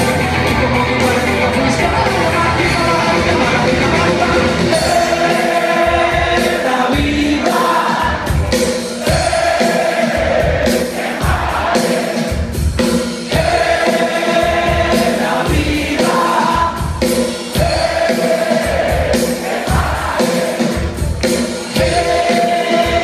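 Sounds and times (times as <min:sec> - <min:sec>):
crowd singing along: 0:00.0 - 0:23.0
live rock band playing: 0:00.0 - 0:23.0.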